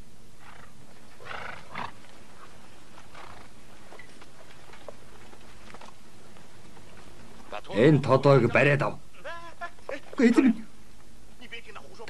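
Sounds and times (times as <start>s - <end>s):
horses moving about: 0.0s - 12.0s
low background hiss: 0.0s - 12.0s.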